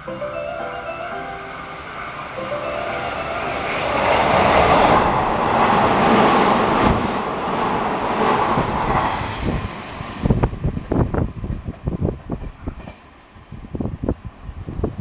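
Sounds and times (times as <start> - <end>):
train wheels rushing on rails: 1.9 - 15.0.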